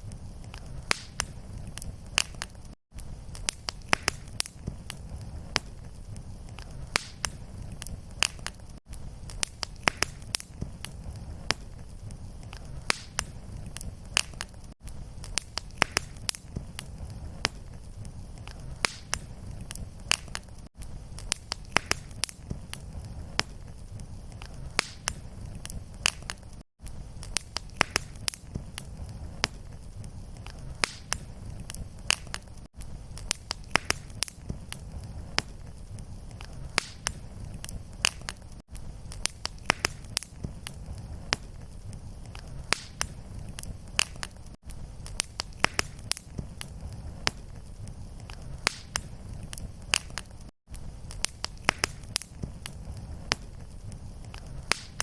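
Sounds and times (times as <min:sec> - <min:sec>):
low rumble of flame: 0:00.0 - 0:55.0
wood fire crackling and popping: 0:00.0 - 0:55.0.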